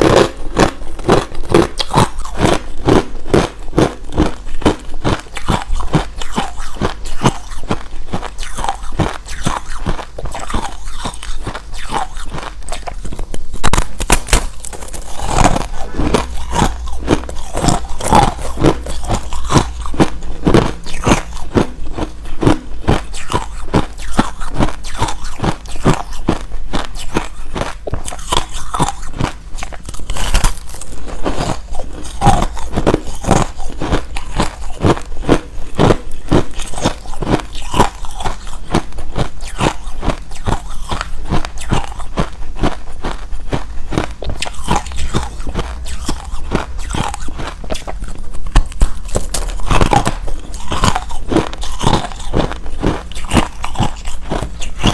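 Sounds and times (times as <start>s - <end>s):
chewing crunchy ice: 0.0s - 54.9s.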